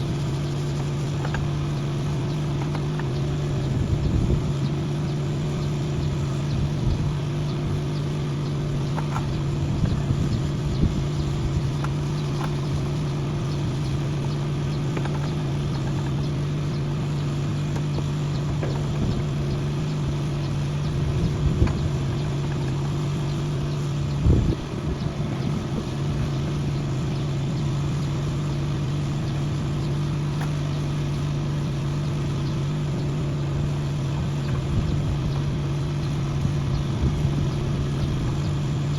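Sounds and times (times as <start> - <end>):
engine idling: 0.0 - 38.9
engine knocks: 0.0 - 38.9.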